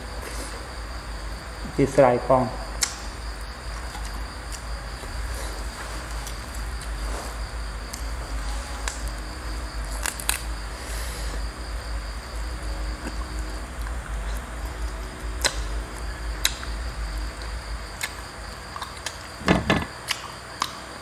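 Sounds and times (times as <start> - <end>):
low hum: 0.0 - 19.9
crickets trilling: 0.0 - 21.0.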